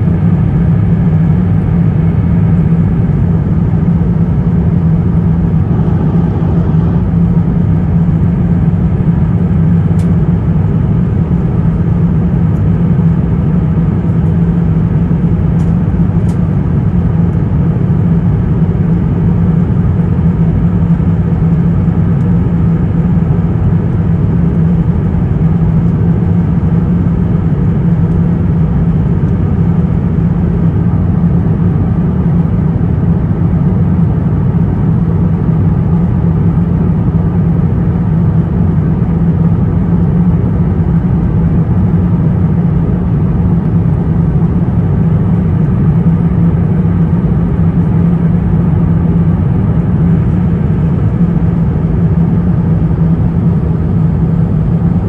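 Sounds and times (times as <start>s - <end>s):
cabin airflow rush: 0.0s - 55.0s
low engine hum: 0.0s - 55.0s.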